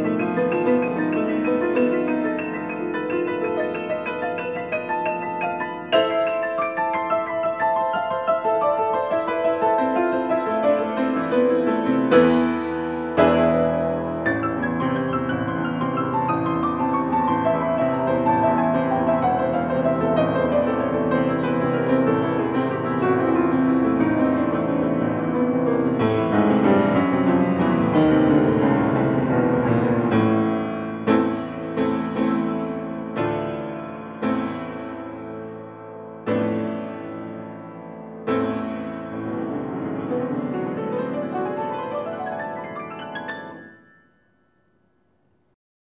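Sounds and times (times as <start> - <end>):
classical piano piece: 0.0 - 44.8.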